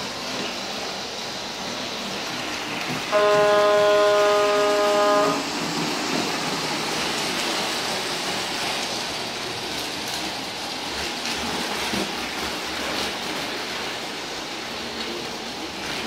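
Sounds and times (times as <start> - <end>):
model train whirring on track: 0.0 - 16.0.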